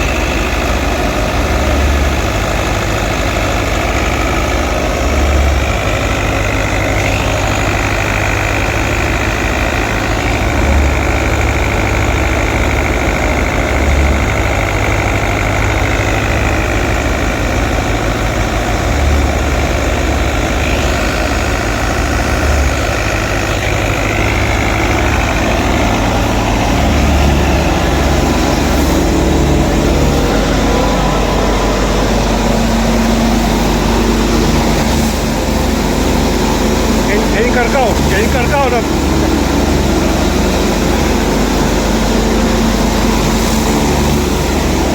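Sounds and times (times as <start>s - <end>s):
high whine from thresher machinery: 0.0s - 44.9s
tractor diesel engine running: 0.0s - 44.9s.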